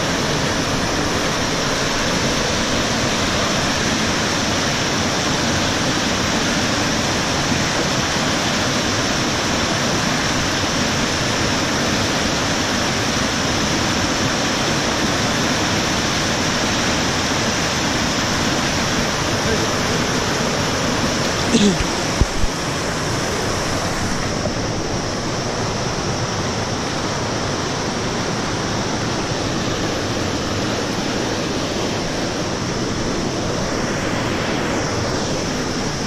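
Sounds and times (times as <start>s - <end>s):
river rushing through rapids: 0.0s - 36.0s.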